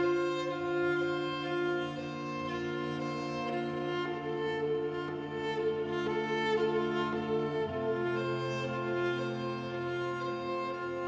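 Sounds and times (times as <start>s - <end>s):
held string chords: 0.0s - 11.0s.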